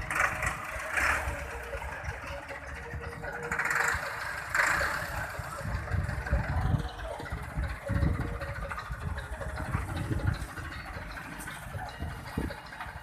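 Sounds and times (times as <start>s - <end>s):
tractor engine rumbling: 0.0s - 13.0s.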